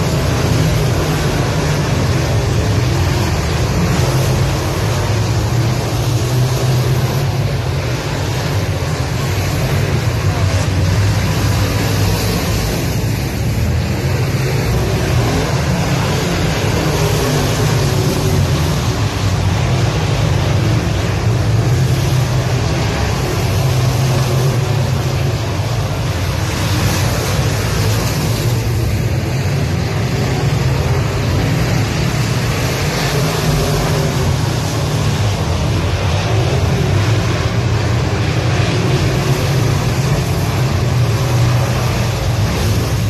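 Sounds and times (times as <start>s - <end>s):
race car engines roaring: 0.0s - 43.0s.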